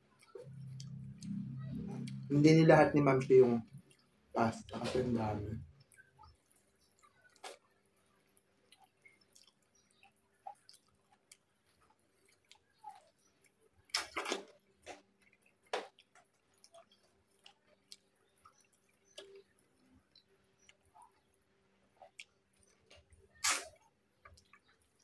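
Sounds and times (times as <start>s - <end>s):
chewing and wet mouth clicks: 0.0s - 4.8s, 5.6s - 25.0s.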